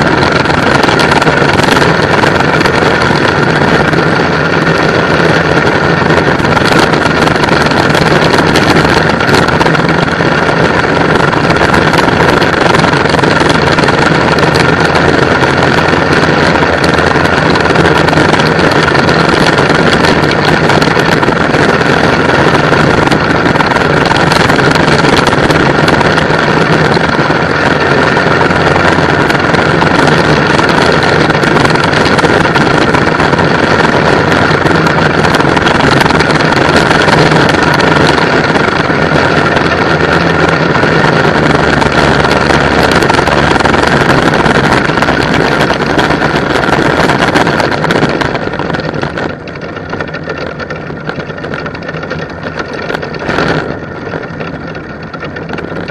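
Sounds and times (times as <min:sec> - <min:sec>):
go-kart engine racing: 0:00.0 - 0:55.9
wind rushing: 0:00.0 - 0:55.9.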